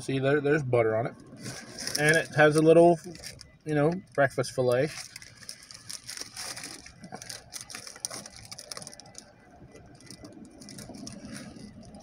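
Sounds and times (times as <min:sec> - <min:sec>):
paper wrapper crinkling: 0:01.4 - 0:12.0.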